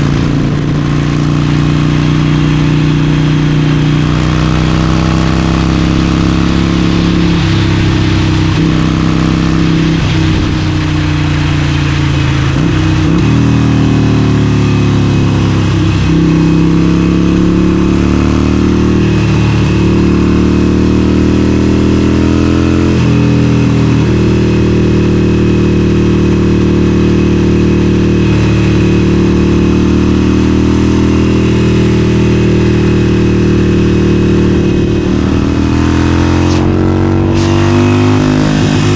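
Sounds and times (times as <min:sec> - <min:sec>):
motorcycle engine at road speed: 0:00.0 - 0:38.9.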